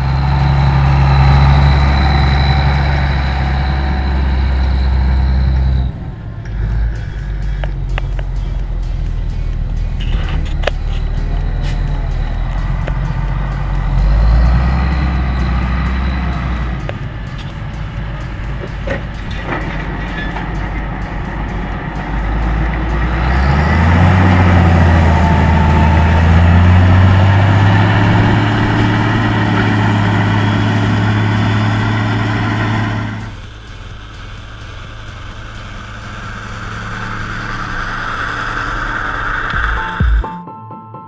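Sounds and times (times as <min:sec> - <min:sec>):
tractor diesel engine under load: 0:00.0 - 0:40.3.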